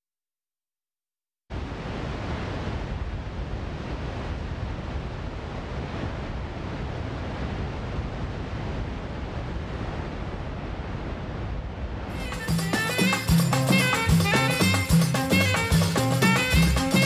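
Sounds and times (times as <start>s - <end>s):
ocean surf breaking on beach: 1.5s - 17.0s.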